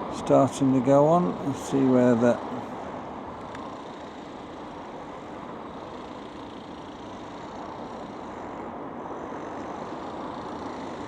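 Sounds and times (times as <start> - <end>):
low rush like distant traffic: 0.0 - 11.0.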